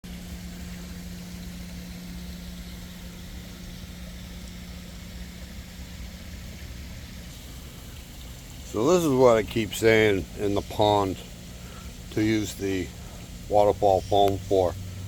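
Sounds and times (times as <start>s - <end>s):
low rumble and hiss: 0.0s - 15.0s
steady mechanical hum: 0.0s - 15.0s.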